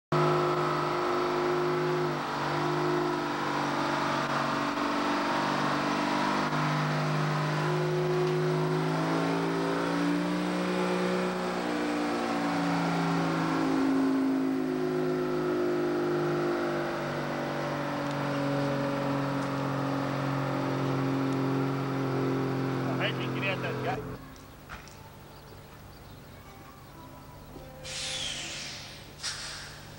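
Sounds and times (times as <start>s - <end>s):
truck engine accelerating: 0.1s - 29.9s.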